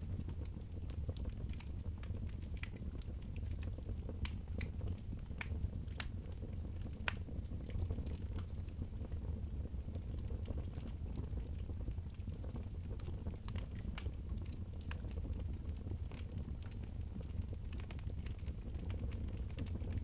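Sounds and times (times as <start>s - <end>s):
fire crackling: 0.0s - 20.0s
fire popping and snapping: 0.0s - 20.0s.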